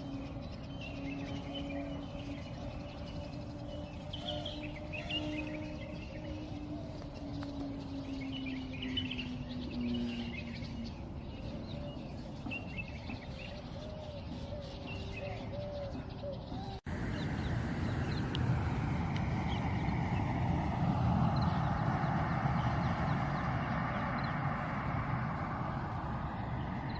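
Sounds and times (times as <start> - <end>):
birds chirping: 0.0 - 26.9.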